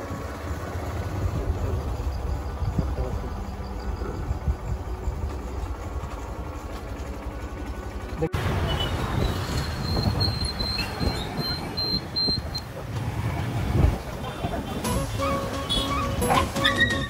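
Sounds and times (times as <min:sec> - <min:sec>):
faint engine hum: 0:00.0 - 0:17.0
vehicle rumble: 0:00.0 - 0:17.0.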